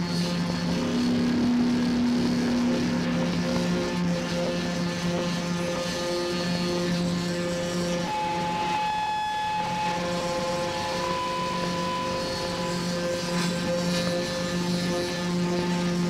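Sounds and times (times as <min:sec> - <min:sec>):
electric guitar drone: 0:00.0 - 0:16.0.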